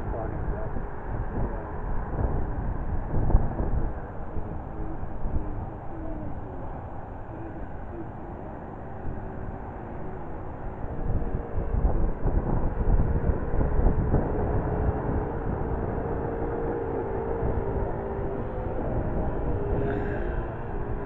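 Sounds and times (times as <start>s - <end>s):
propeller airplane droning overhead: 0.0s - 21.0s.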